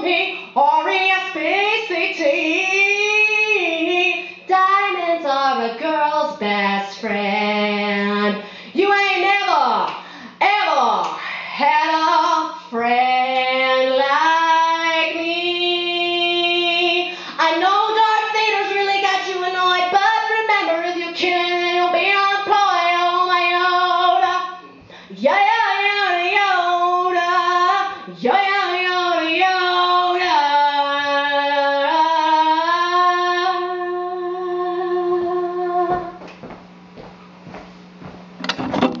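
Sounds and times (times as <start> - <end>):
woman singing a cappella: 0.0 - 36.3
steady low hum: 0.0 - 39.0.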